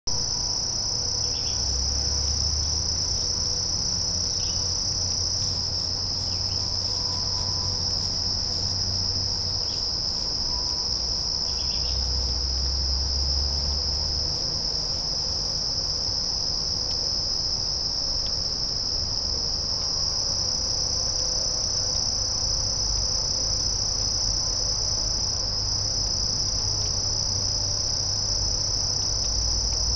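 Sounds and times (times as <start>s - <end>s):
insects trilling: 0.1s - 29.9s.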